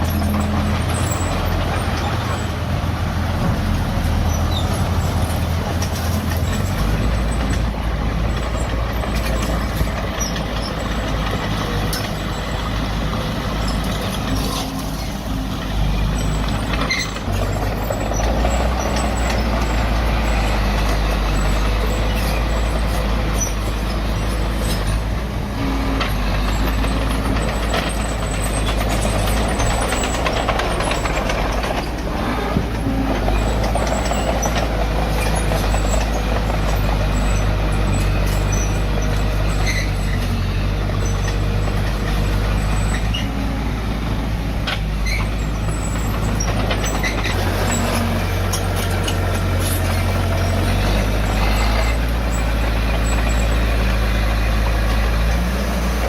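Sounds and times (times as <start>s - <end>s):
diesel engine rumble: 0.0s - 56.0s
clanks: 3.2s - 43.3s, 44.6s - 56.0s.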